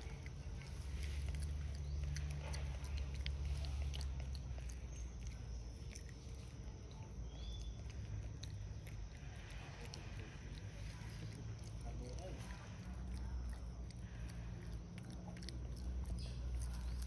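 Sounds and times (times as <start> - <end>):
faint wet clicks and smacks: 0.0 - 17.0.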